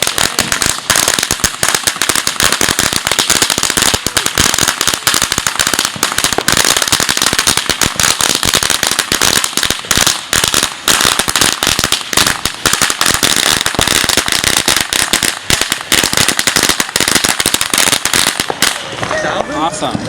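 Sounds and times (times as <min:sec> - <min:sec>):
firecrackers popping: 0:00.0 - 0:20.0.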